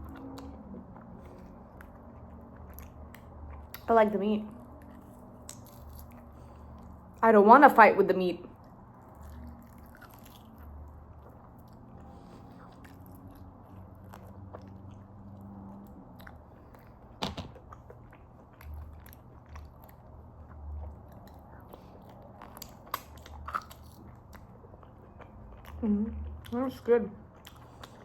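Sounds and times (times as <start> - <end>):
person chewing meat: 0.0 - 3.9, 8.6 - 26.6, 27.2 - 28.0
faint low hum: 0.0 - 28.0.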